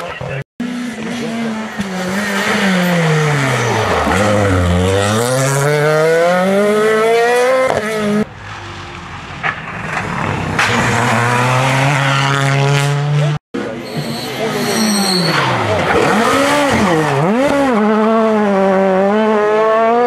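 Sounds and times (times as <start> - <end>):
rally car engine revving: 0.0 - 20.0
car braking into bend: 0.8 - 20.0.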